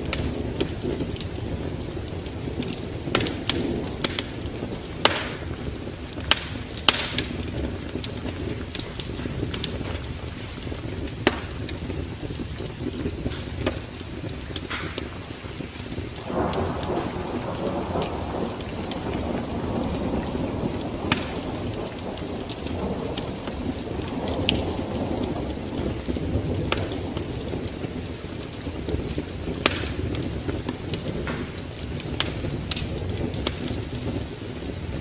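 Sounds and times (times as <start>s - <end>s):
fire crackling and popping: 0.0s - 35.0s.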